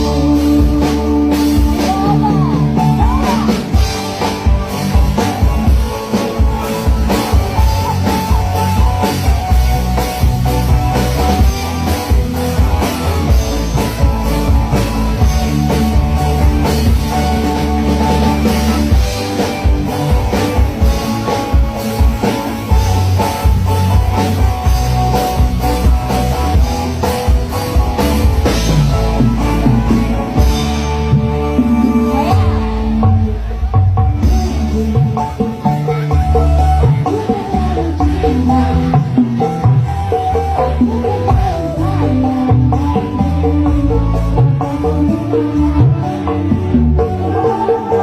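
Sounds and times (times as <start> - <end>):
drum kit beat: 0.0 - 48.0
guitar playing: 0.0 - 48.0.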